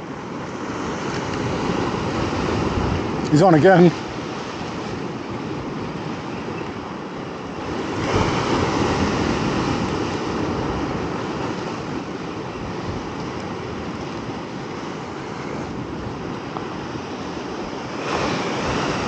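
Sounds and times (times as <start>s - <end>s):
wind on microphone: 0.0s - 19.0s
surf washing against rock: 0.4s - 19.0s.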